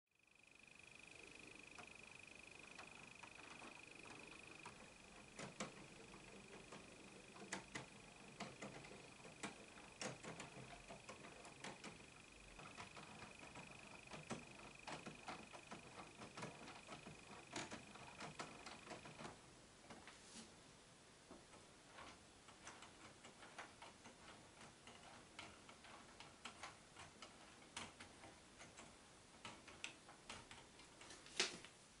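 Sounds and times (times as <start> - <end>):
faint high-pitched whine: 0.1 - 32.0
plastic clicks and ticks: 1.2 - 20.0, 22.0 - 31.5.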